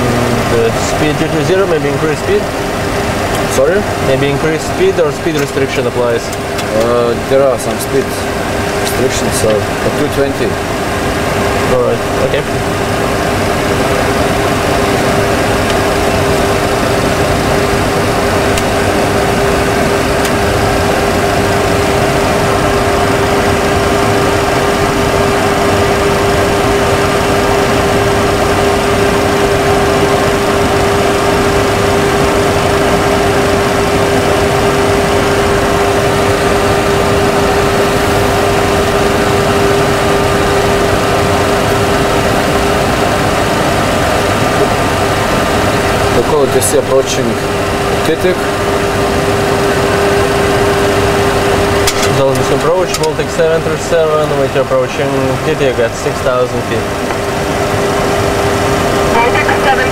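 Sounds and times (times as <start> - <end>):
aircraft cockpit noise: 0.0 - 59.9
held hum: 0.0 - 59.9.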